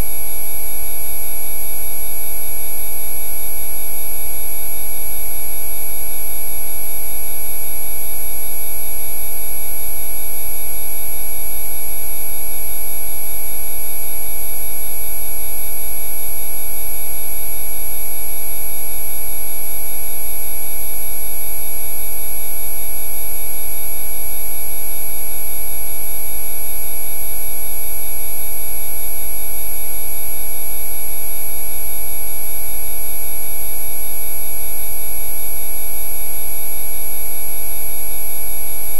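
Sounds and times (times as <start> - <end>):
steady electronic sine tones: 0.0 - 38.9.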